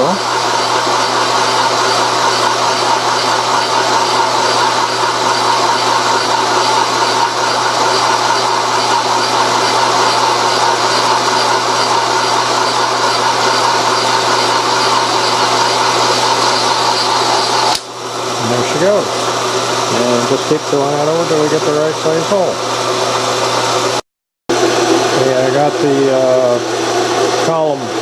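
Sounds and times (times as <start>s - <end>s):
milling machine cutting metal: 0.0s - 28.0s.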